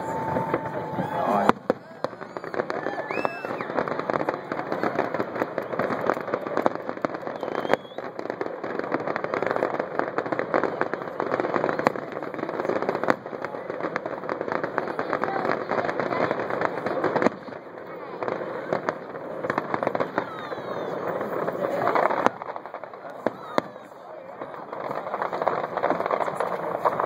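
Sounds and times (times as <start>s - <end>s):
fireworks bangs: 0.0s - 27.0s
fireworks crackling: 0.0s - 27.0s.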